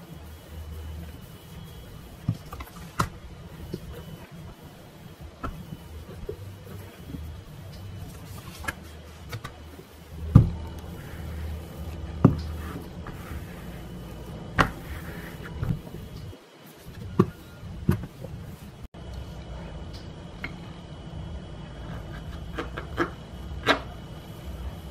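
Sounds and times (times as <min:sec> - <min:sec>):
rolling pin rolling dough: 0:00.0 - 0:18.9, 0:21.6 - 0:24.9.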